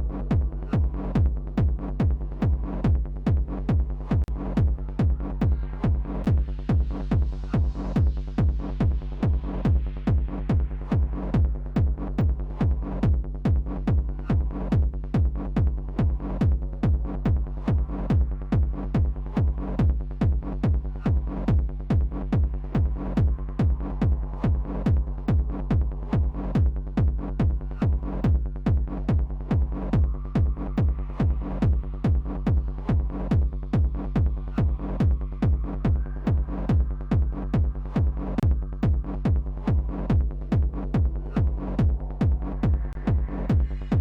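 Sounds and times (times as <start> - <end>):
low bassline: 0.0 - 44.0
techno kick drum: 0.0 - 44.0.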